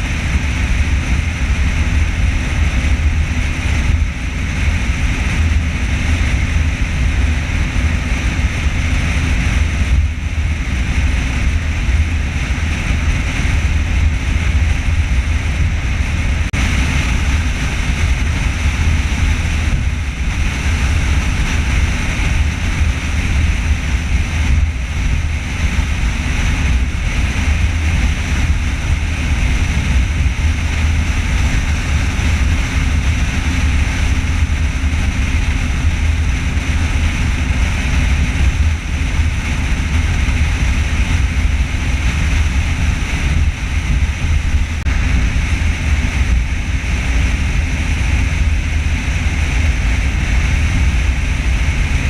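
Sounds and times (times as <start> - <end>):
car road and wind noise: 0.0 - 52.0.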